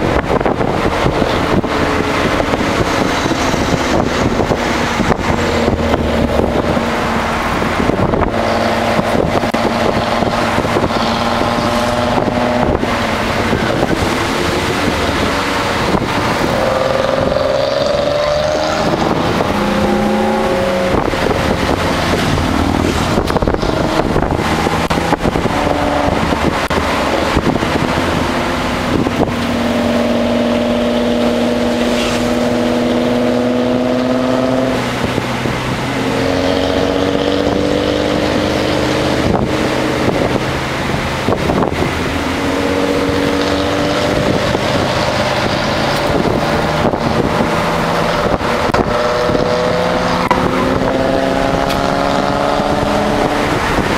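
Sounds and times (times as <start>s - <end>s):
car engine while driving: 0.0s - 53.9s
road and wind noise: 0.0s - 53.9s.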